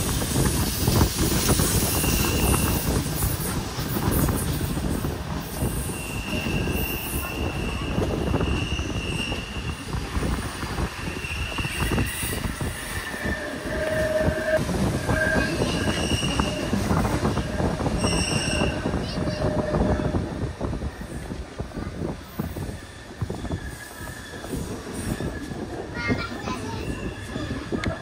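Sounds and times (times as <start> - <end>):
train rolling rumble: 0.0 - 28.0
train wheels squealing: 0.2 - 20.2, 22.2 - 28.0.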